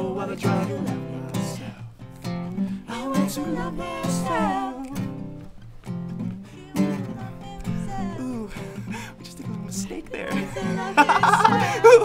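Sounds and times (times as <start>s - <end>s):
person singing: 0.0s - 1.8s, 2.8s - 5.2s, 6.5s - 12.0s
acoustic guitar strumming: 0.0s - 12.0s.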